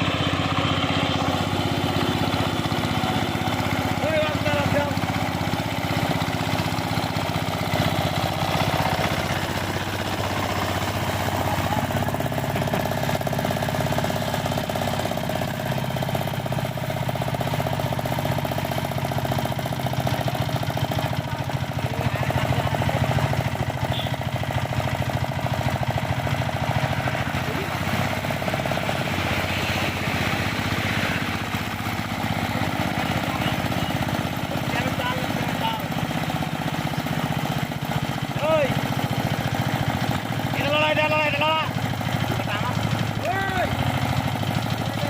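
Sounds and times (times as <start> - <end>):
diesel tiller engine putter: 0.0 - 45.0.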